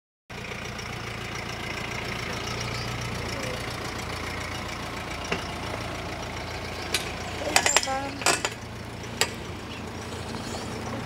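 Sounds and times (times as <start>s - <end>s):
car engine low hum: 0.3s - 11.0s.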